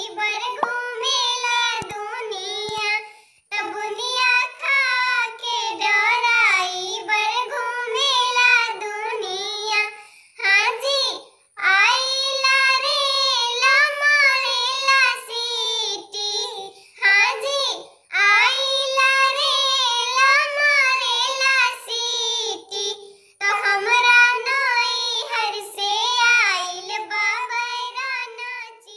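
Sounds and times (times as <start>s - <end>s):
high-pitched voice singing folk song: 0.0s - 28.9s.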